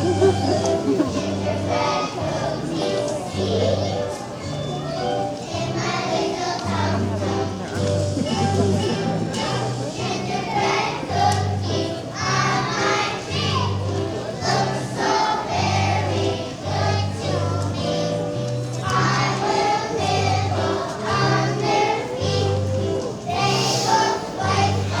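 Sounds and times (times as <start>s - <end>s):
children's choir singing: 0.0s - 25.0s
instrumental accompaniment: 0.0s - 25.0s.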